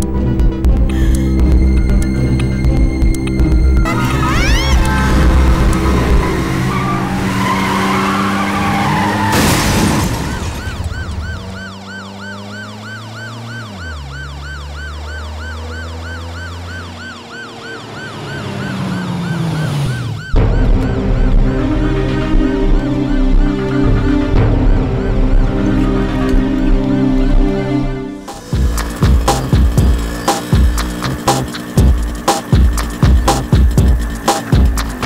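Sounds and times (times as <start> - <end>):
ambulance siren yelping: 1.0 - 35.0.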